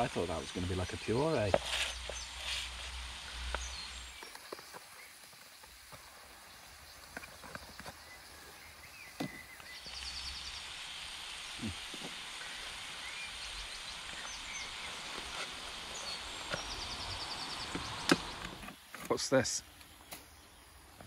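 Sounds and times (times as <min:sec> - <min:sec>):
small birds chirping: 0:00.0 - 0:21.0
steady woodland hiss: 0:00.0 - 0:21.0.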